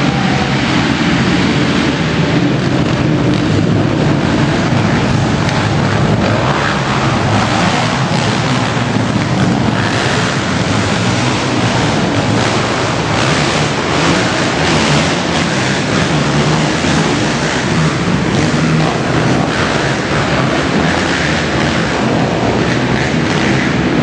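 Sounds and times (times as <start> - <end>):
racing quad engines running: 0.0 - 24.0.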